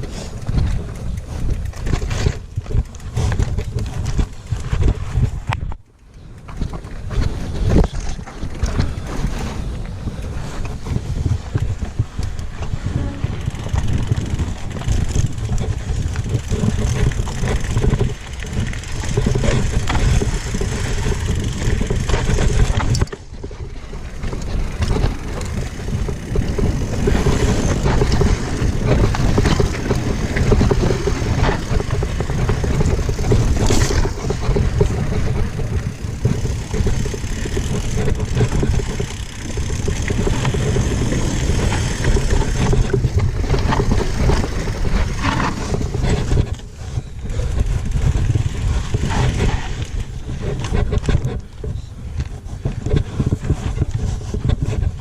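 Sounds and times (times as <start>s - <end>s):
mountain bike clattering on trail: 0.0s - 55.0s
wind rumbling on microphone: 0.0s - 55.0s.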